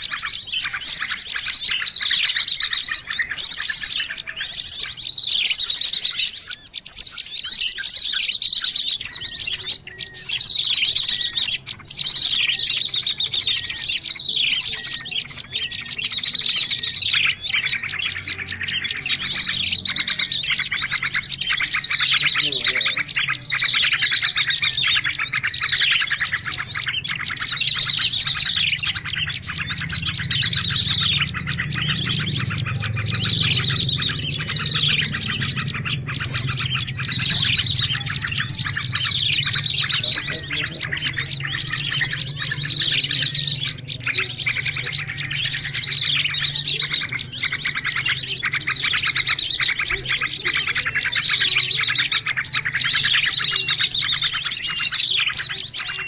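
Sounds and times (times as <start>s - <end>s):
falling bird calls: 0.0s - 56.0s
small songbirds chirping and trilling: 0.0s - 56.0s.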